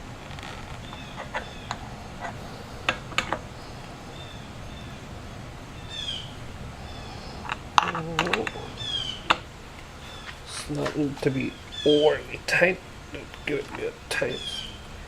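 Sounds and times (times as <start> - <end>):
small birds chirping: 0.7 - 15.0.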